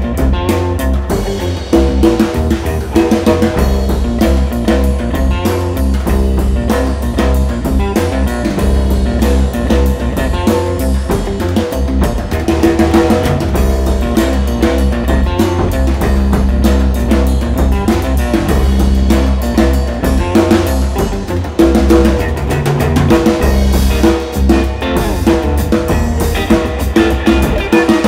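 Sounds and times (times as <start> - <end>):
drum kit: 0.0 - 28.0
electric guitar: 0.0 - 28.0.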